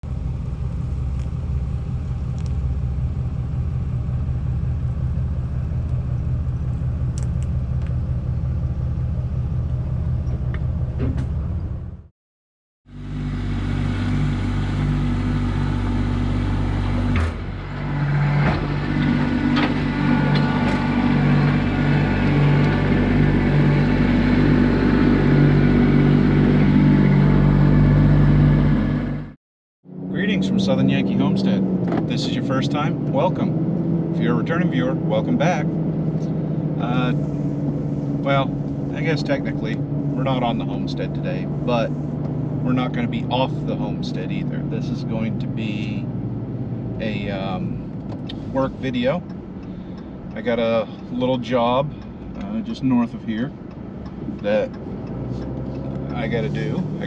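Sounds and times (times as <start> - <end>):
vehicle engine running: 0.0 - 12.1, 12.9 - 57.0.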